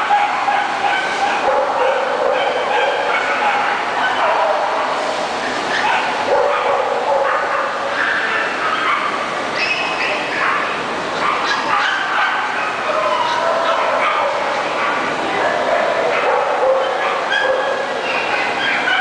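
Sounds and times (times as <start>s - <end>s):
dogs barking and yipping: 0.0s - 19.0s
people talking: 0.0s - 19.0s.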